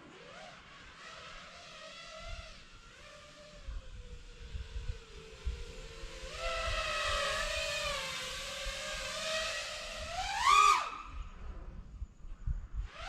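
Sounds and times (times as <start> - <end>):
quadcopter propellers whining: 0.0 - 11.4.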